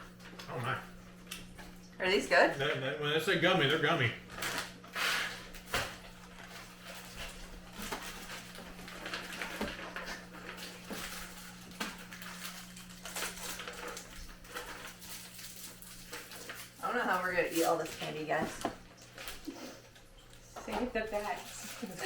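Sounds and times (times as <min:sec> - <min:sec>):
plastic packaging rustling: 0:04.2 - 0:22.0.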